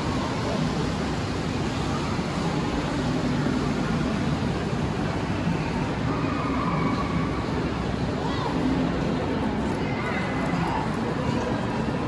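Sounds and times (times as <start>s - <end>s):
indistinct crowd chatter: 0.0s - 12.0s.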